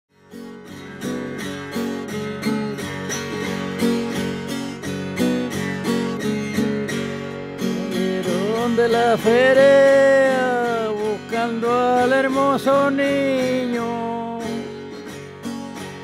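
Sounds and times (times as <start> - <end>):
acoustic guitar strumming: 0.1 - 16.0.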